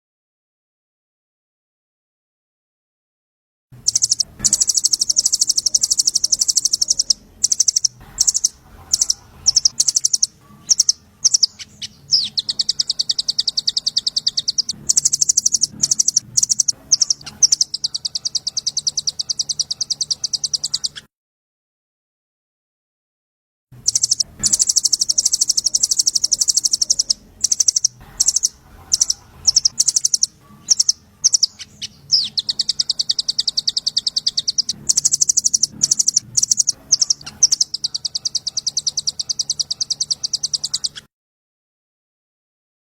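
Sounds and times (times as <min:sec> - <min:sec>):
faint low hum: 0:03.8 - 0:21.0, 0:23.8 - 0:41.0
songbird rapid chattering trill: 0:03.8 - 0:21.1, 0:23.8 - 0:41.1.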